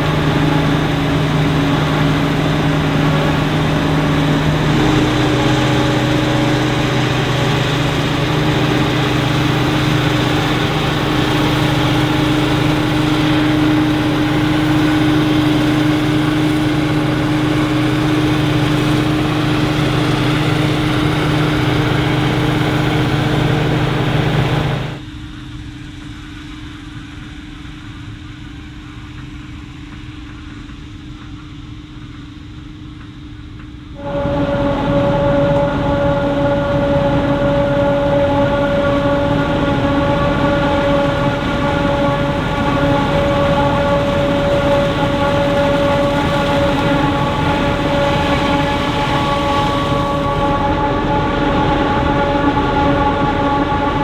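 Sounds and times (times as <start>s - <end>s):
distant engine: 0.0s - 25.0s, 34.0s - 54.0s
heavy farm machinery engine: 0.0s - 25.0s, 34.0s - 54.0s.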